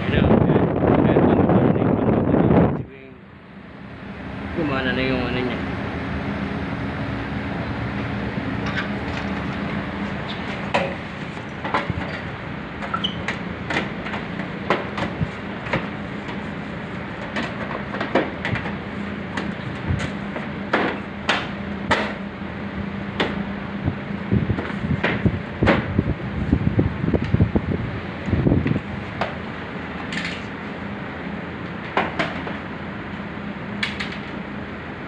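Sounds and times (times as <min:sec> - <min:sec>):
air conditioner unit humming: 0:00.0 - 0:35.0.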